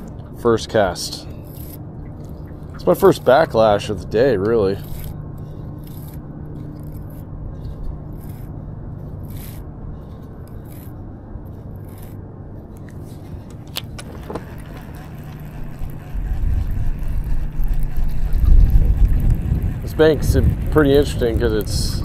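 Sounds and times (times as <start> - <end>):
low hum: 0.0 - 22.0
fishing line scraping off reel: 1.1 - 22.0.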